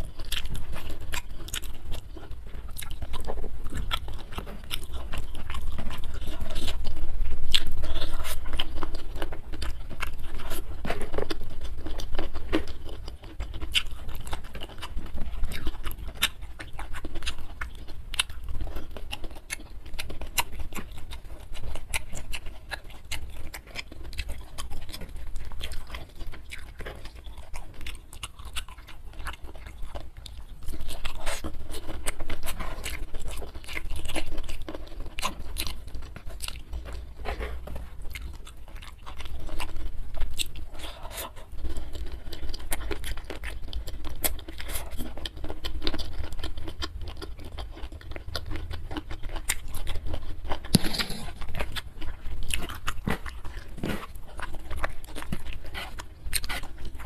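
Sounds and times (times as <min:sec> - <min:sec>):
crunching while chewing: 0:00.0 - 0:57.0.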